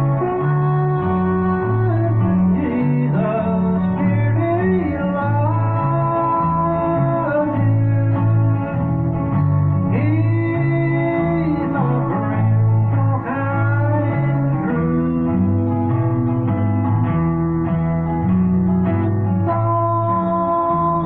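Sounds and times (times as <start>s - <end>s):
guitar playing: 0.0s - 21.0s
steady bass line: 0.0s - 21.0s.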